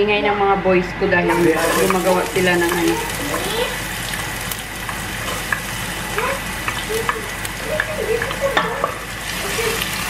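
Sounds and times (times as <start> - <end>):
vegetables sizzling in oil: 1.3 - 10.0.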